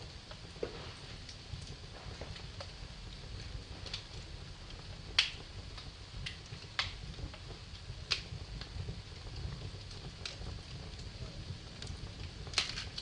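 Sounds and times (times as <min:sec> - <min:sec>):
low rumble of flames: 0:00.0 - 0:13.0
sharp pops from fire: 0:00.0 - 0:13.0
wood fire crackling: 0:00.0 - 0:13.0.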